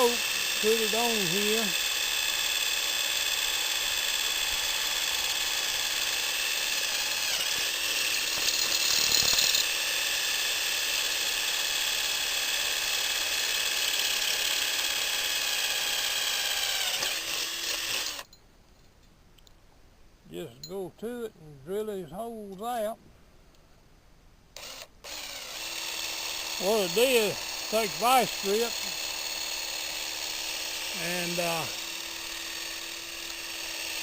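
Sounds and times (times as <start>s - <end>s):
drill bit cutting into wood: 0.0s - 18.3s, 24.6s - 34.0s
electric drill motor running: 0.0s - 18.3s, 24.6s - 34.0s.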